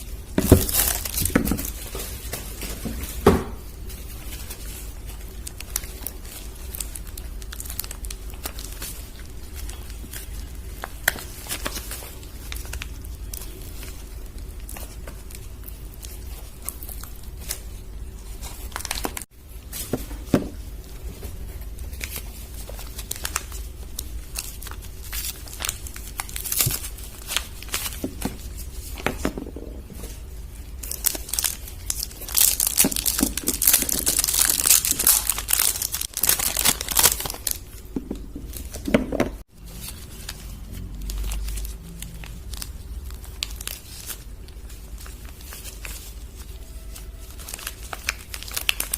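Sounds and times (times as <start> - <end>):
wrappers crinkling and tearing: 0.0 - 48.9.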